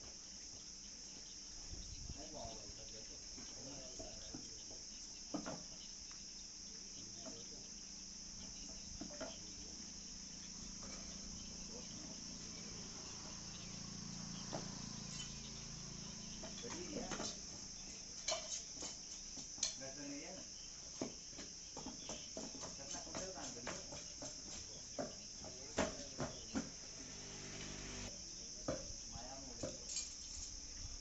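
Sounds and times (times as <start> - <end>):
high-pitched insect chirring: 0.1 - 27.3.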